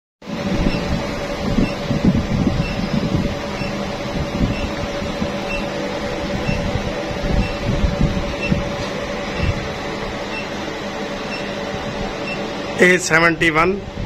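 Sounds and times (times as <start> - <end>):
steady mechanical hum: 0.2 - 14.0.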